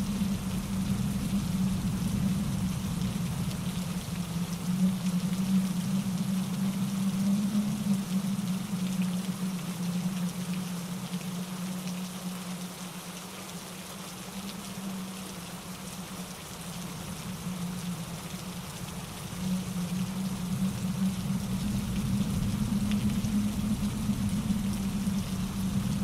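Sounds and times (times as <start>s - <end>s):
rain pattering on leaves: 0.0s - 26.0s
stream rushing over rocks: 0.0s - 26.0s
wind in trees: 0.0s - 26.0s.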